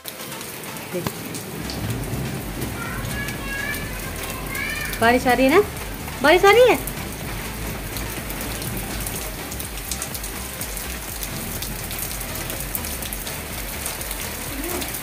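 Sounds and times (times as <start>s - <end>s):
rain drops hitting: 0.0s - 15.0s
steady low rumble: 1.6s - 13.8s.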